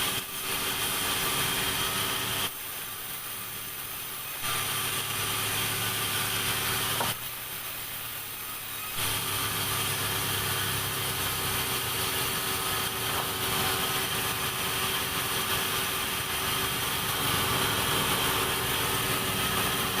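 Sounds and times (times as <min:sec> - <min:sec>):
machine hum: 0:00.0 - 0:20.0
sawmill saw cutting timber: 0:00.0 - 0:20.0.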